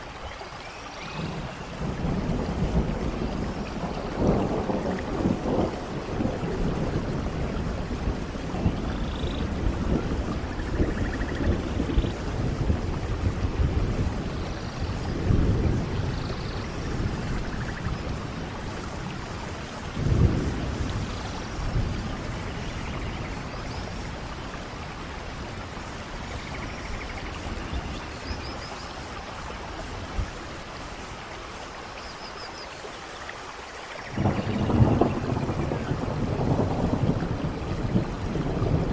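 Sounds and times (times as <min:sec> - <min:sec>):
steady rain: 0:00.0 - 0:38.9
low rolls of thunder: 0:01.1 - 0:28.6, 0:34.0 - 0:38.9.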